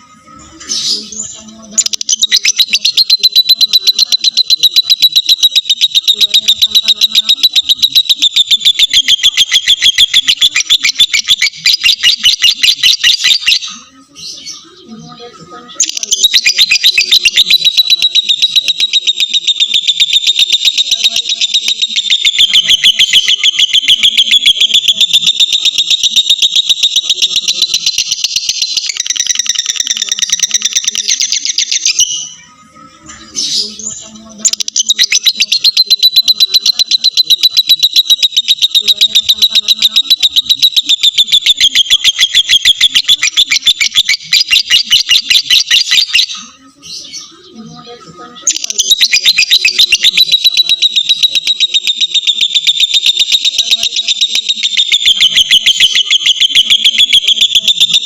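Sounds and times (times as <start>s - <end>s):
bird chattering trill: 0.0s - 32.5s, 33.1s - 58.0s.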